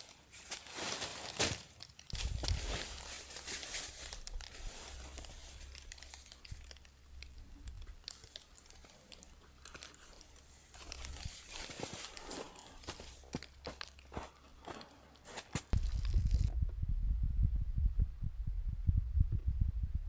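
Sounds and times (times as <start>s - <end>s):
crinkling and rustling handling: 0.0s - 16.5s
small clicks and crunches: 0.0s - 16.5s.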